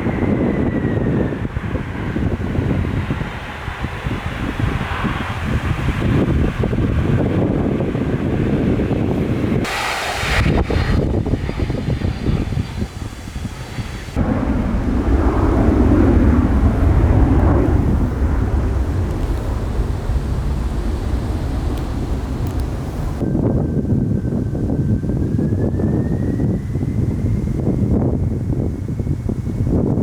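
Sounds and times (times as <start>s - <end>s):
jet airliner engines rumbling: 0.0s - 30.0s
wind buffeting microphone: 0.0s - 30.0s.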